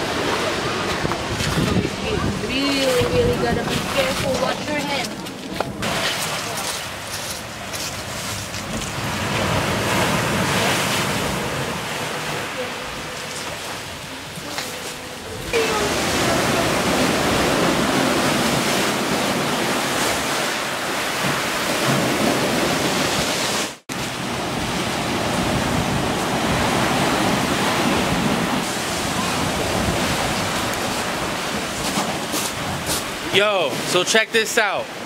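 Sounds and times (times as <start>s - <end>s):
surf breaking over rocks: 0.0s - 35.0s.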